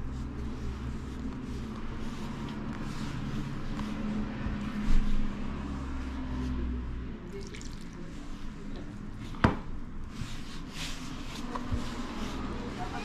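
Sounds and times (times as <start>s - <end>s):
dough squishing by hand: 0.0s - 13.0s.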